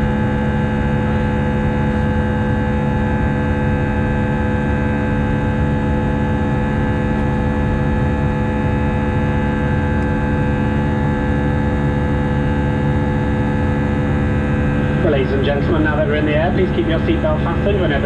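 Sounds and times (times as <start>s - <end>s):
jet engine drone in cabin: 0.0s - 18.0s
steady humming tones: 0.0s - 18.0s.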